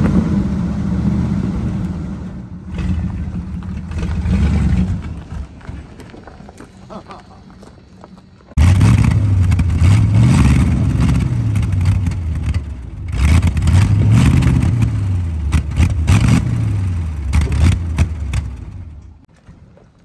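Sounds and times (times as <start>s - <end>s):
car engine revving: 0.0s - 5.9s, 8.5s - 19.0s.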